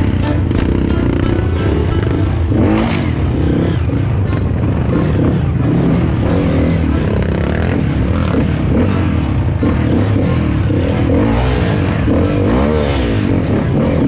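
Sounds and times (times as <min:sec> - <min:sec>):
dirt bike engine at low revs: 0:00.0 - 0:14.0.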